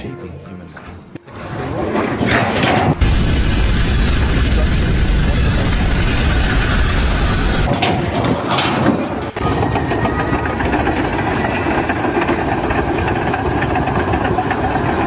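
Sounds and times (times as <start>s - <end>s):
engine running: 1.4s - 15.0s.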